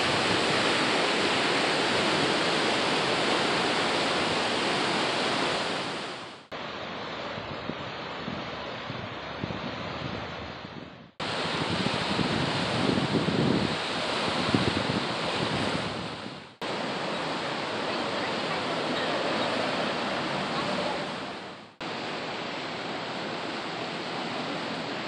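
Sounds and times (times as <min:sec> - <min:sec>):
wind buffeting microphone: 0:00.0 - 0:06.1, 0:07.3 - 0:21.4
river rushing: 0:00.0 - 0:10.1, 0:11.2 - 0:25.0.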